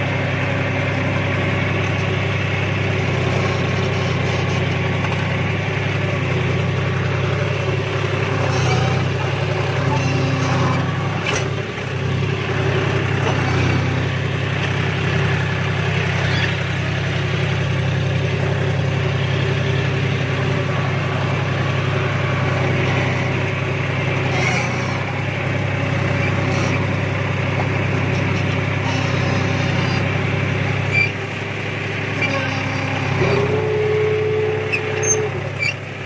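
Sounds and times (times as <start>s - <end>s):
tractor diesel engine: 0.0s - 36.0s.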